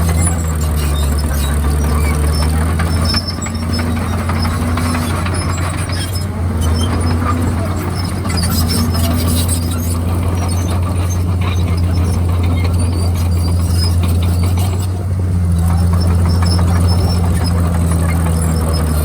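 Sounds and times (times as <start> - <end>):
bulldozer diesel engine drone: 0.0 - 19.0
high squeaks and clicks: 0.0 - 19.0.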